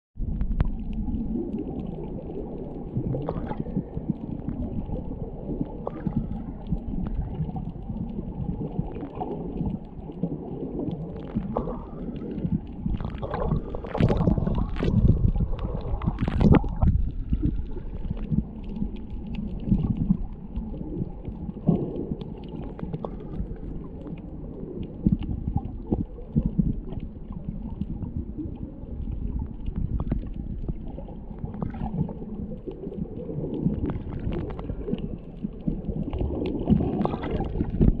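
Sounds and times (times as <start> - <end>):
sharp underwater clicks and crackles: 0.2 - 38.0
underwater water rumble and gurgle: 0.2 - 38.0.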